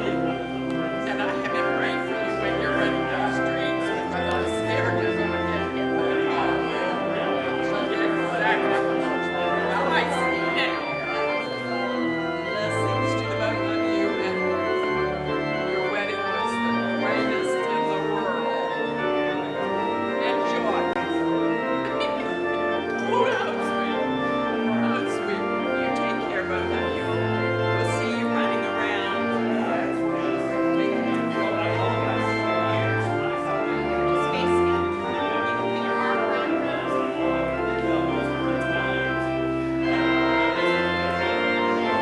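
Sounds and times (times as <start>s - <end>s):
organ playing chords: 0.0s - 42.0s.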